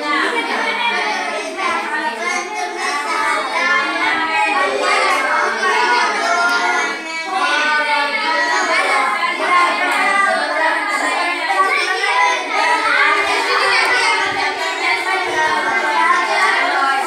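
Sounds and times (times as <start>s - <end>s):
children singing: 0.0s - 17.0s.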